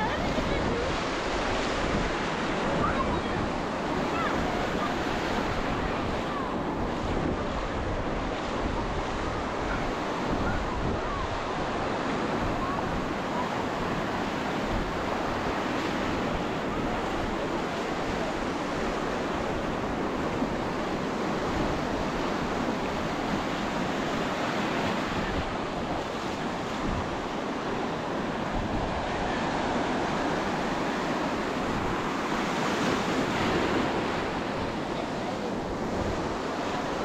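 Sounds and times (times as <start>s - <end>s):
ocean surf: 0.0s - 37.0s
wind buffeting microphone: 0.0s - 37.0s.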